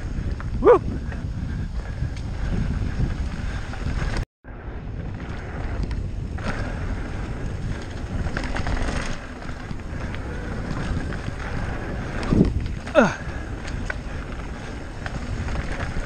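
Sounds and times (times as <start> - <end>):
bike tyres rumbling and rattling: 0.0 - 16.0
wind buffeting microphone: 0.0 - 16.0.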